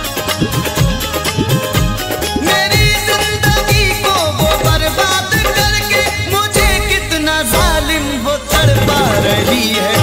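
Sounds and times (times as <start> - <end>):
ghazal music: 0.0 - 10.0.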